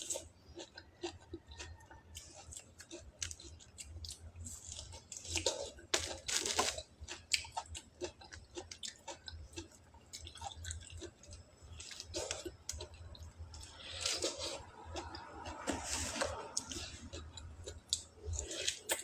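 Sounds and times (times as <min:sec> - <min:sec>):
person chewing fruit: 0:00.0 - 0:19.0.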